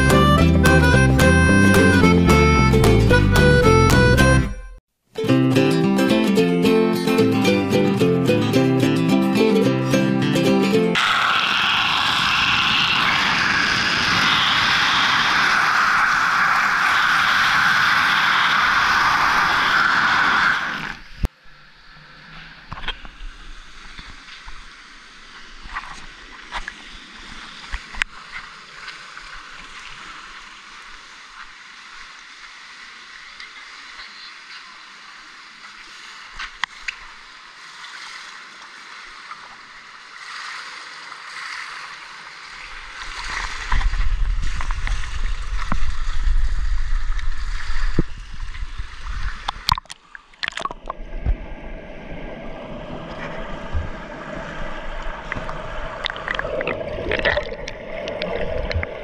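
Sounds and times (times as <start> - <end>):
water splashing and lapping: 9.2 - 21.3, 22.0 - 59.0
low rumble of water: 10.9 - 59.0.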